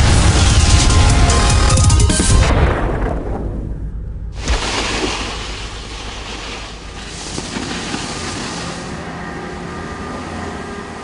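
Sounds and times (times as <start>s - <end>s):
rushing rumbling noise: 0.0s - 9.7s.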